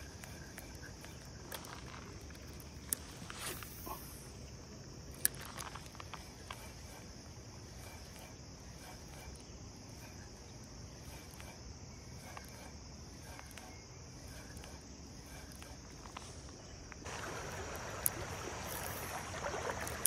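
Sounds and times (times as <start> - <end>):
faint regular ticks: 0.0 - 4.2, 5.0 - 17.1
crickets chirping: 0.0 - 20.0.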